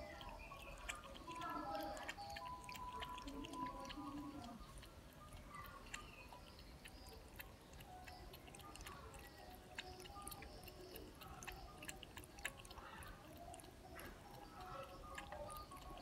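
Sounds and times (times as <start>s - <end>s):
cat lapping water: 0.0s - 16.0s.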